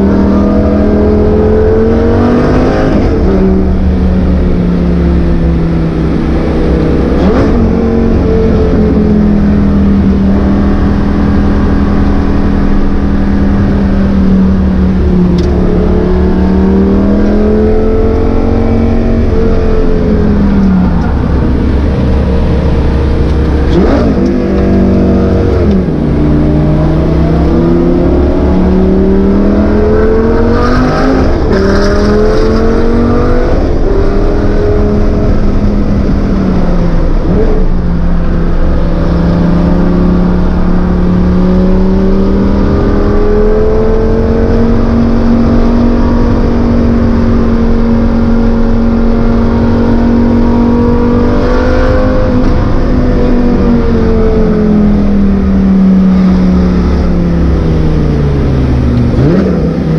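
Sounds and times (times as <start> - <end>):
car engine accelerating: 0.0 - 59.9
low road rumble: 0.0 - 59.9.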